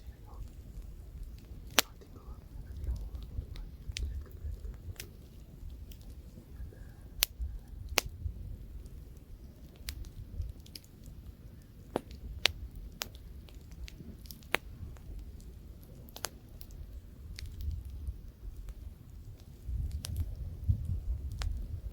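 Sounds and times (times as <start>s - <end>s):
campfire crackling and popping: 0.0s - 21.9s
light wind rumble: 0.0s - 21.9s.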